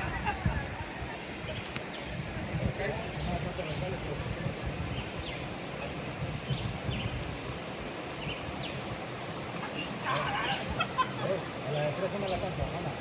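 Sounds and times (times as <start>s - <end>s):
wind rumble on microphone: 0.0s - 11.1s
birds chirping: 0.0s - 13.0s
water running over rocks: 0.0s - 13.0s.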